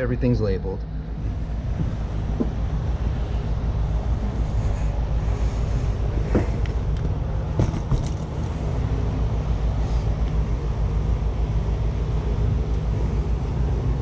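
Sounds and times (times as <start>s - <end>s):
hvac equipment rumbling: 0.0s - 14.0s.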